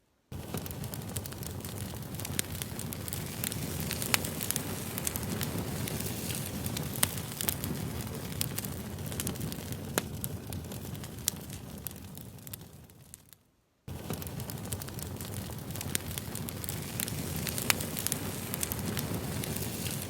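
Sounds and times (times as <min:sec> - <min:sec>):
low rush of flames: 0:00.3 - 0:20.0
wood crackling and popping: 0:00.3 - 0:20.0.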